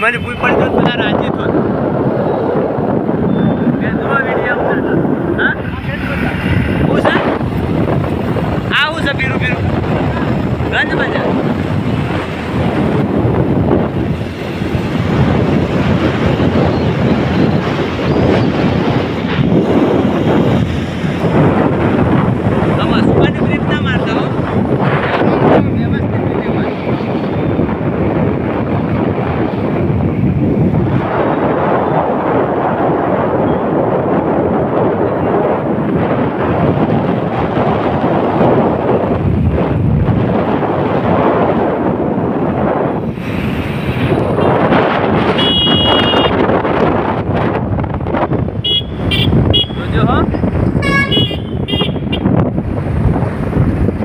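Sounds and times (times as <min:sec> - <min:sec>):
traffic and road noise: 0:00.0 - 0:54.0
wind buffeting microphone: 0:00.0 - 0:54.0.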